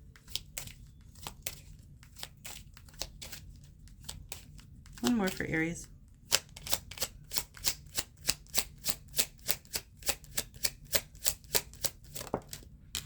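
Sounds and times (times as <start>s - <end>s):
cards being shuffled: 0.1s - 5.6s, 6.2s - 13.0s.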